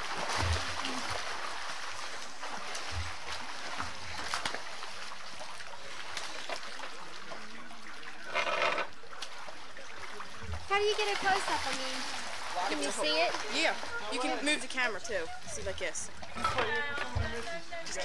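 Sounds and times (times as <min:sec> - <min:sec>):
pool water splashing: 0:00.0 - 0:18.0.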